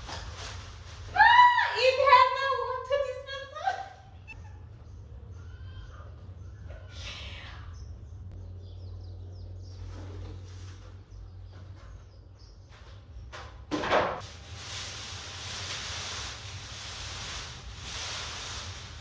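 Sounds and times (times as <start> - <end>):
steady low hum: 3.2 - 19.0.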